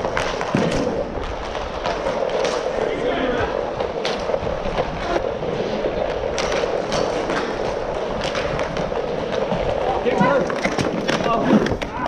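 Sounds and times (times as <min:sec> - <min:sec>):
hockey sticks and puck clacking: 0:00.0 - 0:12.0
skate wheels rumbling on tiles: 0:00.0 - 0:12.0.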